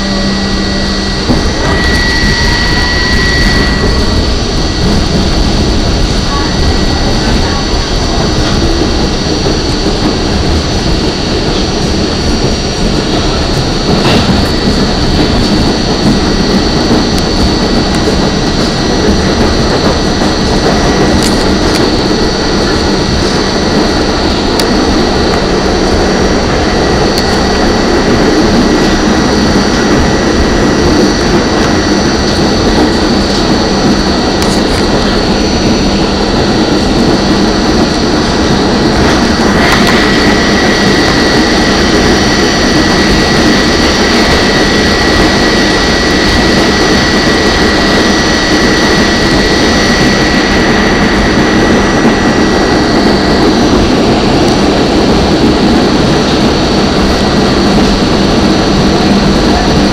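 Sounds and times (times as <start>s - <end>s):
high steady whine: 0.0s - 59.9s
train wheels rumbling on rails: 0.0s - 59.9s.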